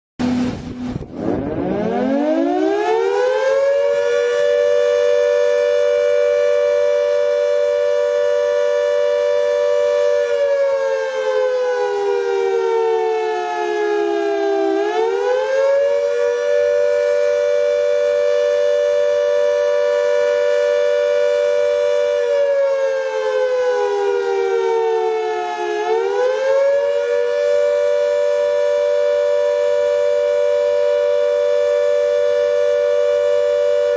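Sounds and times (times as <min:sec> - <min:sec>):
air raid siren wailing: 0:00.2 - 0:33.9.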